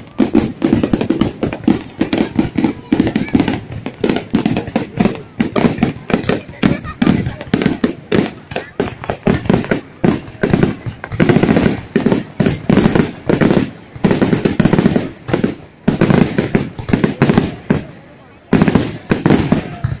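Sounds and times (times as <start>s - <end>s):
fireworks cracking and banging: 0.0s - 20.0s.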